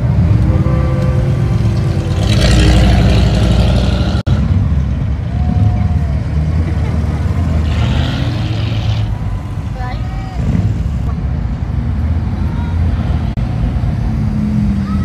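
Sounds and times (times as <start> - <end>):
car engines rumbling past: 0.0 - 15.0.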